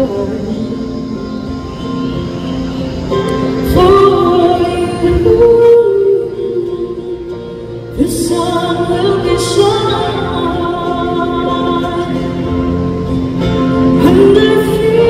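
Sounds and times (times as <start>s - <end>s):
woman singing a slow ballad: 0.0s - 1.4s, 3.6s - 15.0s
acoustic guitar: 0.0s - 15.0s
bass: 0.0s - 15.0s
keyboard: 0.0s - 15.0s.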